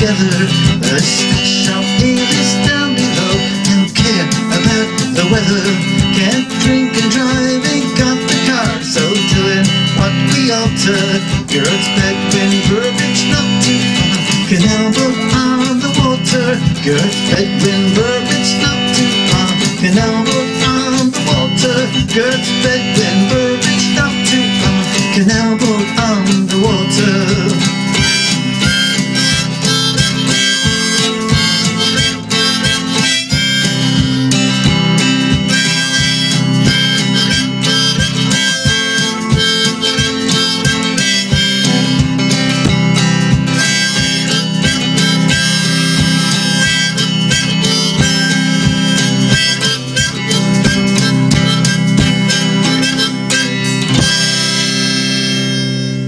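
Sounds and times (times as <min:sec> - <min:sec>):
harmonica playing: 0:00.0 - 0:56.0
strummed acoustic guitar: 0:00.0 - 0:56.0.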